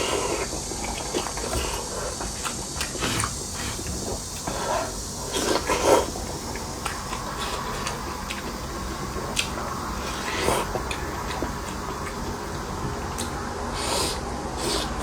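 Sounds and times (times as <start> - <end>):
person chewing and slurping: 0.0 - 15.0.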